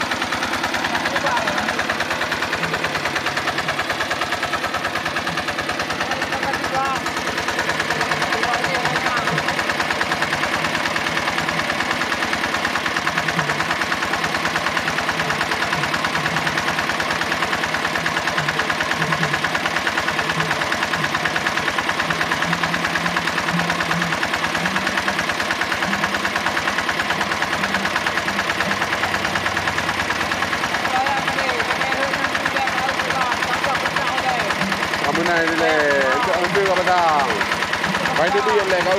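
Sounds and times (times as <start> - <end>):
diesel engine driving water pump: 0.0 - 38.9.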